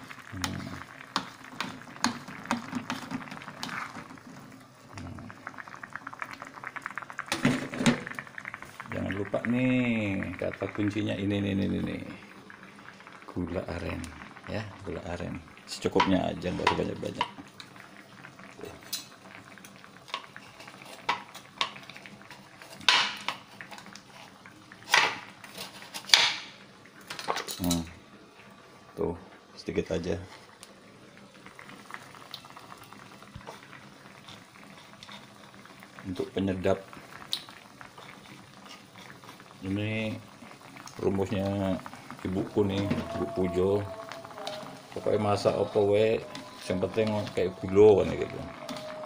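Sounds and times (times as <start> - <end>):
broth boiling in a wok: 0.0 - 49.0.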